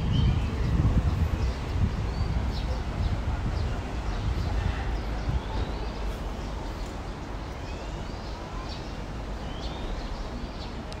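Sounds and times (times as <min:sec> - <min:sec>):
songbirds chirping and whistling: 0:00.0 - 0:11.0.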